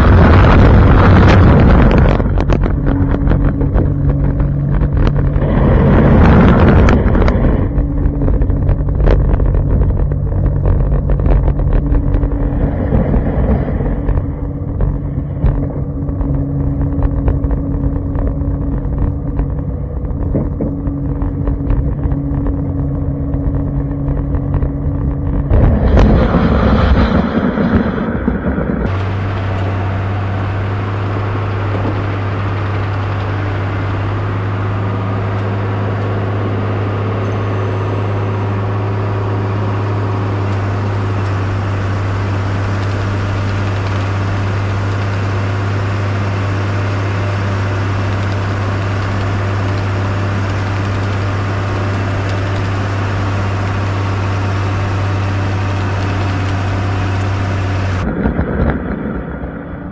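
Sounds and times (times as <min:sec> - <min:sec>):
snowcat engine humming: 0:00.0 - 0:59.9.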